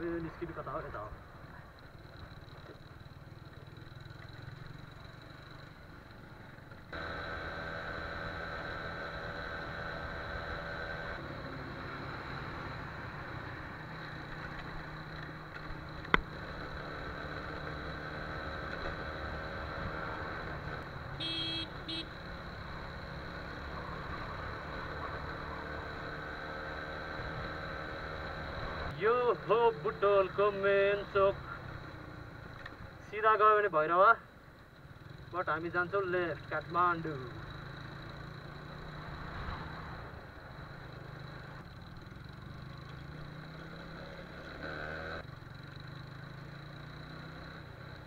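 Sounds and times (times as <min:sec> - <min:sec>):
wind and road noise: 0:00.0 - 0:48.0
motorcycle engine running: 0:01.4 - 0:28.9, 0:36.1 - 0:48.0.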